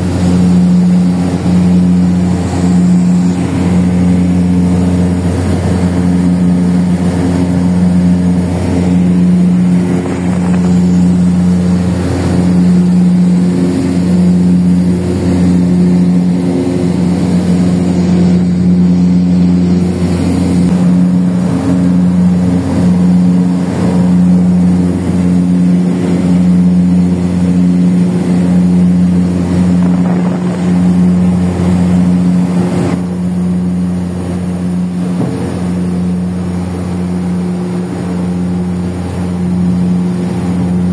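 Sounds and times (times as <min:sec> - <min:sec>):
propeller aircraft engines droning: 0:00.0 - 0:40.9.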